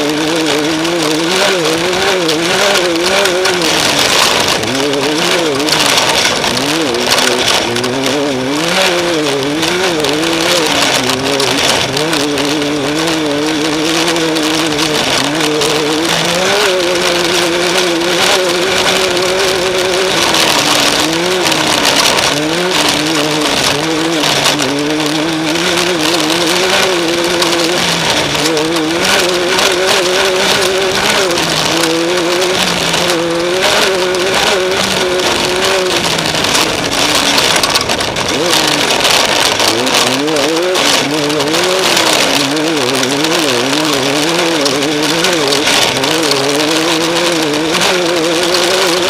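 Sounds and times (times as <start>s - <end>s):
off-road vehicle engine running hard: 0.0s - 49.0s
rush of wind and dirt: 0.0s - 49.0s.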